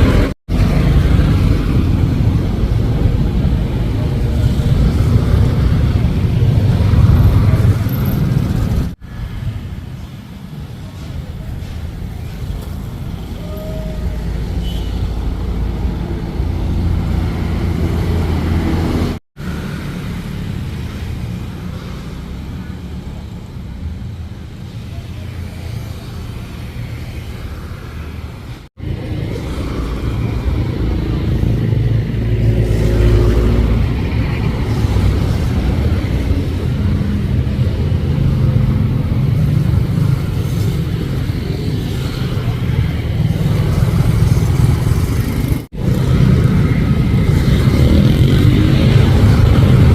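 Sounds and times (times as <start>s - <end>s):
rumble of passing cars: 0.0s - 49.9s.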